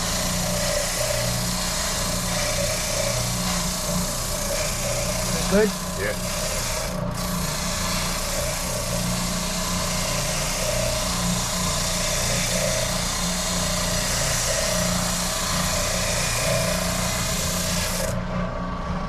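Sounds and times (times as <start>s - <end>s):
power tool motor running: 0.0s - 18.3s.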